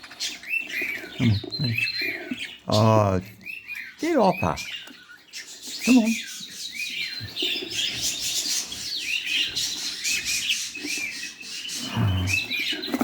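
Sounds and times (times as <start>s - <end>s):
budgerigars chirping: 0.0s - 13.0s.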